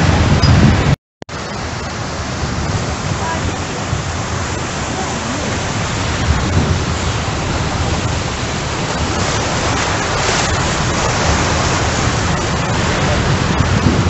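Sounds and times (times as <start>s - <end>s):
floodwater rushing: 0.0s - 14.0s
heavy rain: 0.0s - 14.0s.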